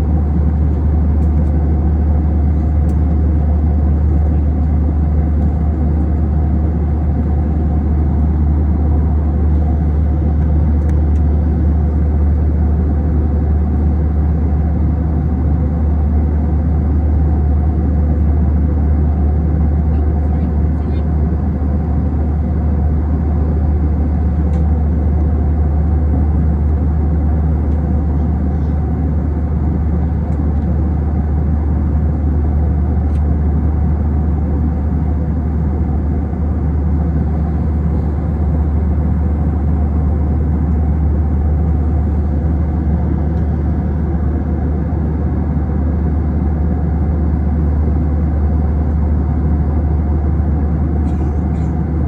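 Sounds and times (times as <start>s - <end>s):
airliner cabin engine rumble: 0.0s - 52.0s.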